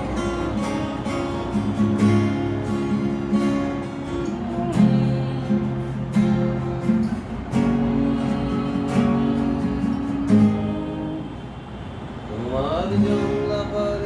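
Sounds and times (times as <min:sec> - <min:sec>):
acoustic guitar strumming chords: 0:00.0 - 0:11.6, 0:12.8 - 0:14.0.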